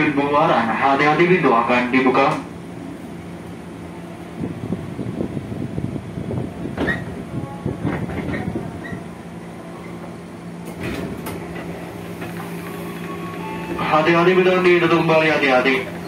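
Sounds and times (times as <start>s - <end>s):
train equipment hum: 0.0s - 16.0s.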